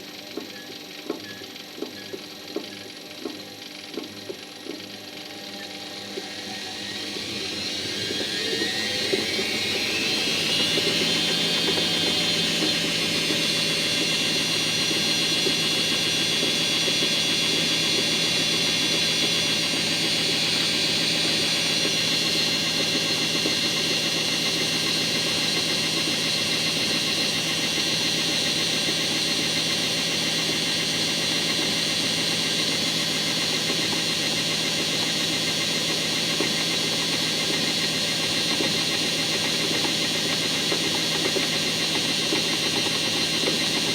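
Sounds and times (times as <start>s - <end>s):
washing machine drum spinning: 6.1s - 43.9s.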